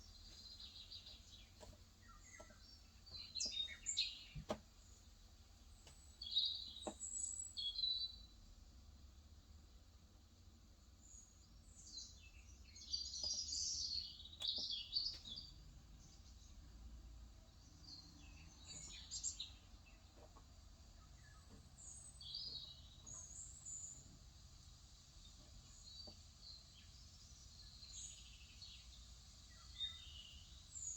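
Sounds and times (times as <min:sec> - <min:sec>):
small birds chirping: 0:00.0 - 0:08.4, 0:10.8 - 0:30.9.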